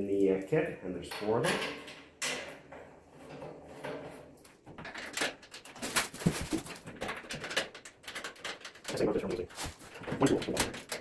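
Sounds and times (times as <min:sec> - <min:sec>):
metal panels clicking and rattling: 0:01.1 - 0:11.0.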